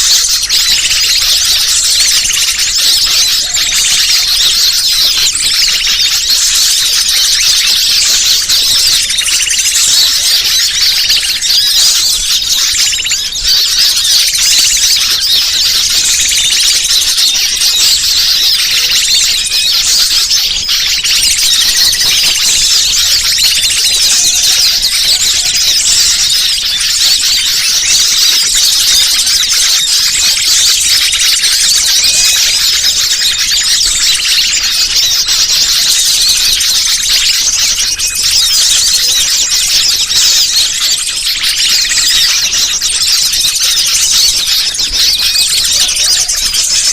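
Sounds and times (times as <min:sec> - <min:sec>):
small birds chattering: 0:00.0 - 0:46.9.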